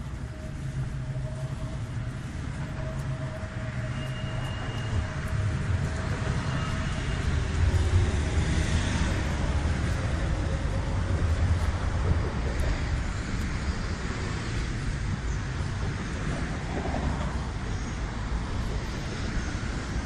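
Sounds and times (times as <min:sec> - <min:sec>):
vehicle road noise: 0:00.0 - 0:20.0.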